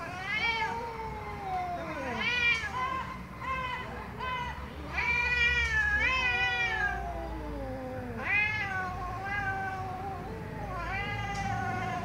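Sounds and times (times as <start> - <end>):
cats yowling: 0.0 - 12.0.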